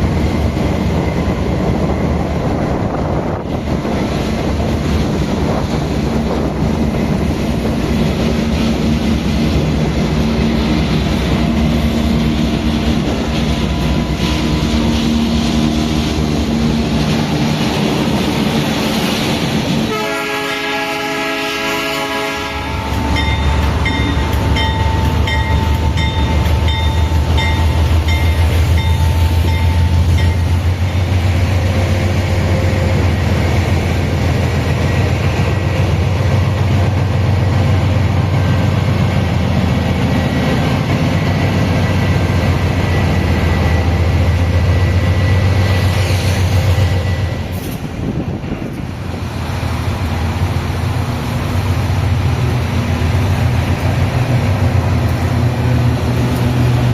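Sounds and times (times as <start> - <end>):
freight train rumbling: 0.0 - 56.9.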